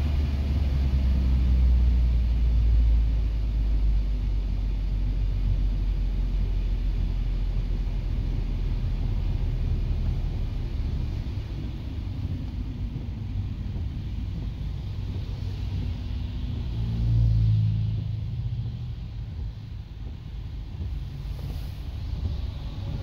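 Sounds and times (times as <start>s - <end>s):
car engine and tyres on wet road: 0.0s - 23.0s.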